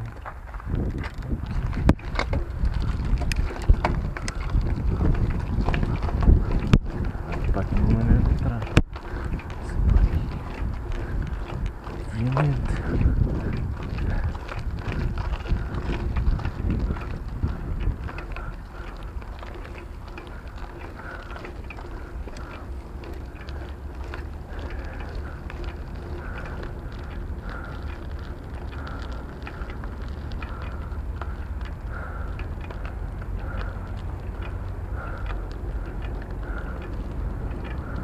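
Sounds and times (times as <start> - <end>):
bicycle rattles and clicks: 0.0 - 38.0
wind rumbling on microphone: 0.0 - 38.0.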